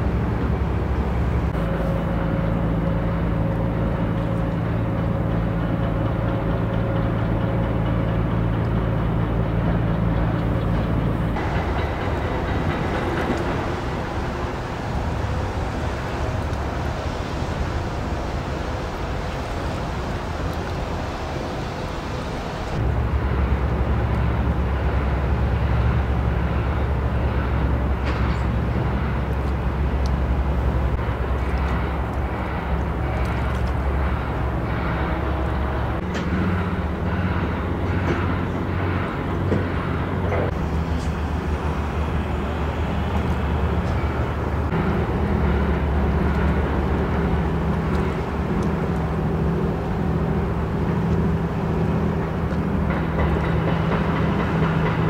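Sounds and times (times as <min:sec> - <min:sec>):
deep engine drone: 0:00.0 - 0:55.0
engines and traffic: 0:00.0 - 0:55.0.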